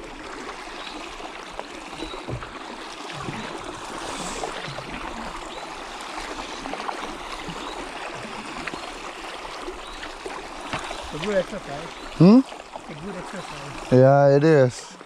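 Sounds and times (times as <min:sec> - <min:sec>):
paddles dipping in water: 0:00.0 - 0:15.0
water dripping off paddle blades: 0:00.0 - 0:15.0.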